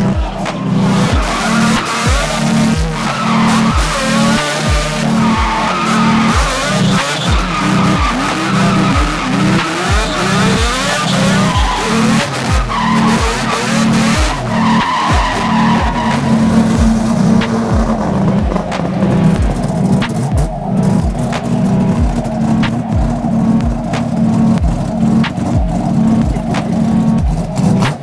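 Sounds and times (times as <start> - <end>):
rotary engine revving: 0.0 - 28.0
thumping music beat: 0.0 - 28.0
tyres squealing: 0.0 - 28.0.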